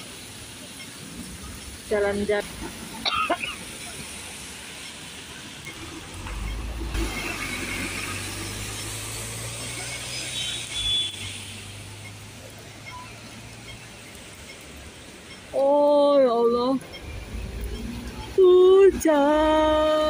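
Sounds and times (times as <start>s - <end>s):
tyres hissing on wet road: 0.0s - 20.0s
vehicle engine humming: 0.0s - 20.0s.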